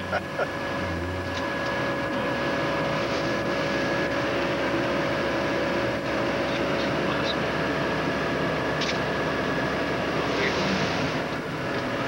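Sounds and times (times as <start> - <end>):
snowcat engine drone: 0.0 - 12.0
steady whine: 0.0 - 12.0.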